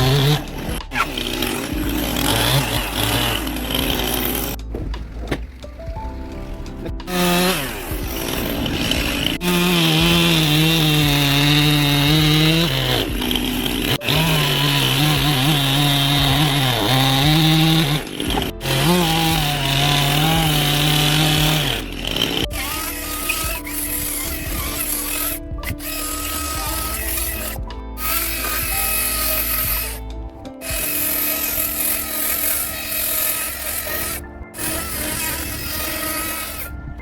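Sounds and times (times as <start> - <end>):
chainsaw cutting wood: 0.0 - 36.8.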